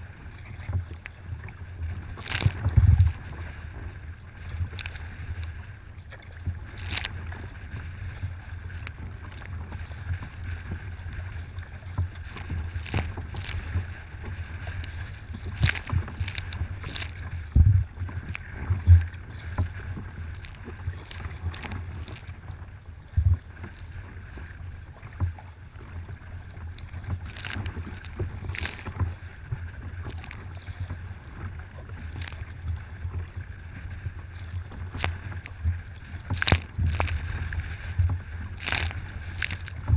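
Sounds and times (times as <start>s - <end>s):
low rumble of water and wind: 0.0s - 39.9s
waves splashing against a kayak: 0.0s - 39.9s.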